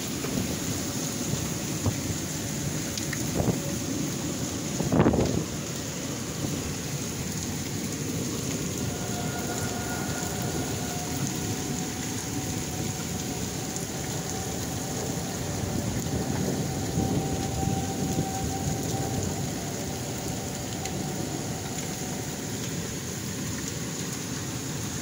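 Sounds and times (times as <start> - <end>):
strong wind: 0.0 - 23.3
rain: 0.0 - 25.0.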